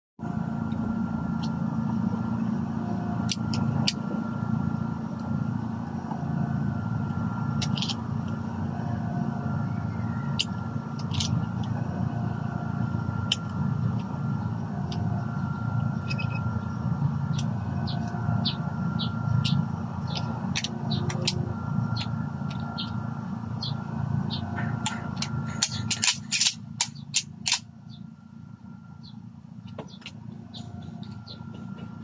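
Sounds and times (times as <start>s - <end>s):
steady low drone: 0.2s - 32.0s.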